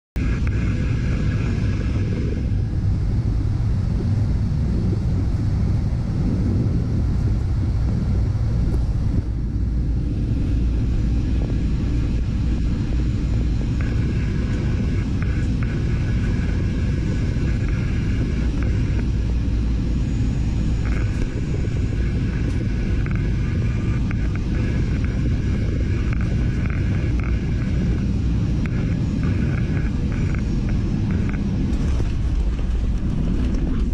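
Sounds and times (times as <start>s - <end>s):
jet engine rumble: 0.2s - 33.9s
jet engine whine: 0.2s - 33.9s.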